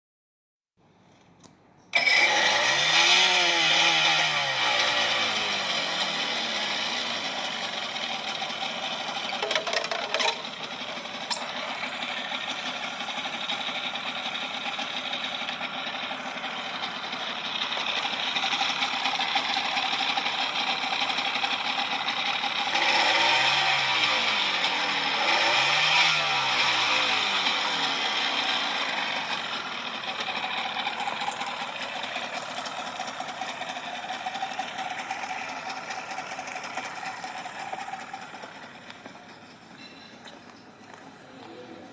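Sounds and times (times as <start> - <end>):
outboard motor running: 2.0 - 41.2.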